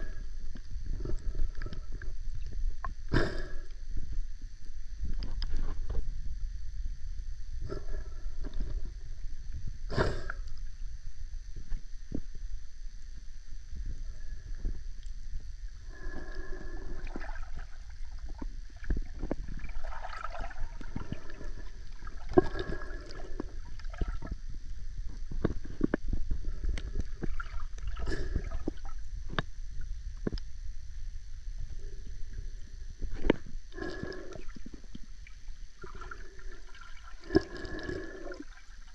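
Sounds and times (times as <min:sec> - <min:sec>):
underwater low rumble: 0:00.0 - 0:38.9.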